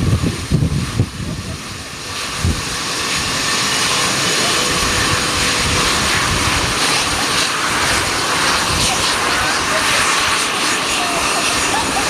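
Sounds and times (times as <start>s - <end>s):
jet engine hiss and whine: 0.0s - 12.0s.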